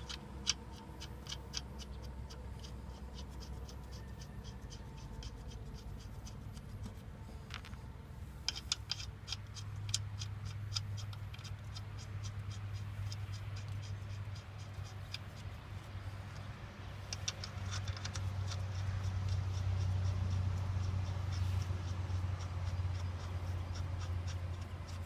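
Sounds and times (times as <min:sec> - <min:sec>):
lug nuts clicking spun by hand: 0:00.0 - 0:07.8, 0:08.4 - 0:25.0.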